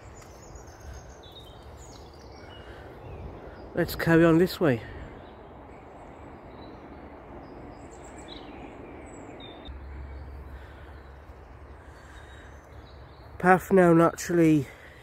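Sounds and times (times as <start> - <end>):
steady outdoor background noise: 0.0 - 15.0.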